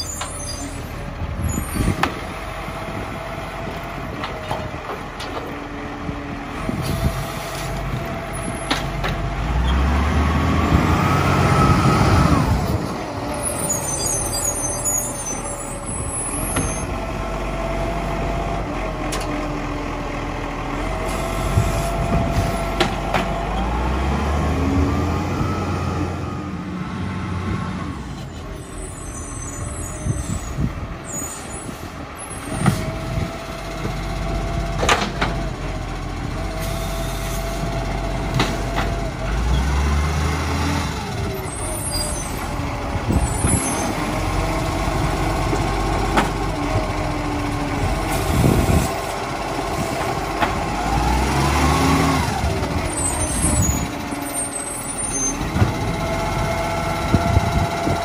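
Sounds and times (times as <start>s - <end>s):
garbage truck diesel engine revving: 0.0s - 29.0s, 29.6s - 58.0s.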